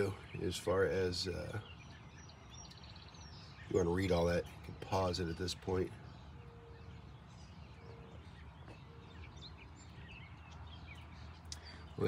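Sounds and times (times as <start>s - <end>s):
high bird chirps: 0.0s - 12.0s.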